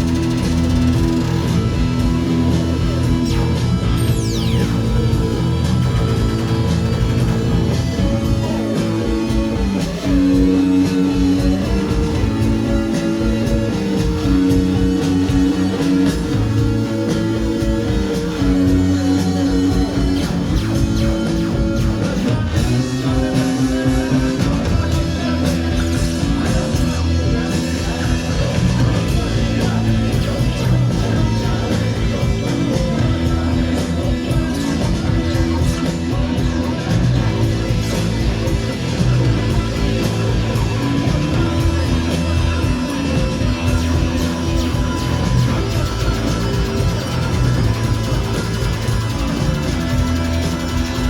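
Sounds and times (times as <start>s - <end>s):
live guitar-led rock music: 0.0s - 51.0s.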